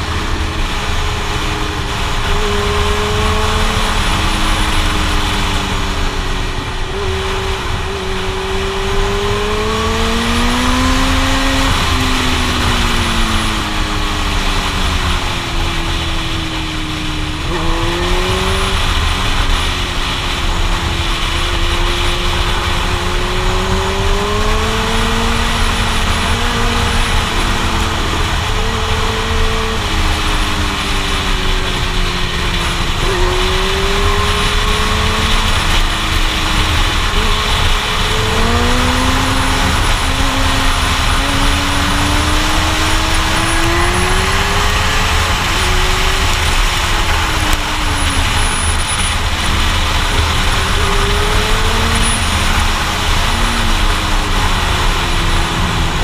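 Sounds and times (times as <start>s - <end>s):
motorcycle engine accelerating: 0.0s - 56.0s
wind roaring on microphone: 0.0s - 56.0s.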